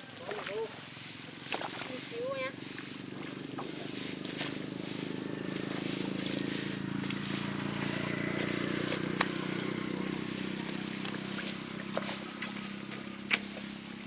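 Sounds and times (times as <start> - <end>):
small engine running steadily: 0.0 - 14.0.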